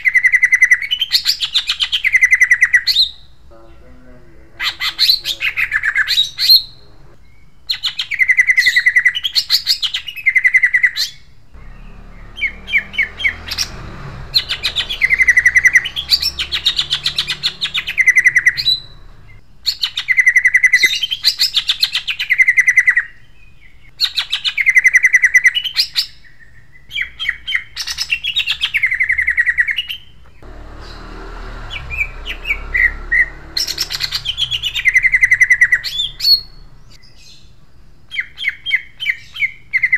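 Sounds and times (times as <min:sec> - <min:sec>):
bird singing rapid trills: 0:00.0 - 0:03.4, 0:04.6 - 0:39.9.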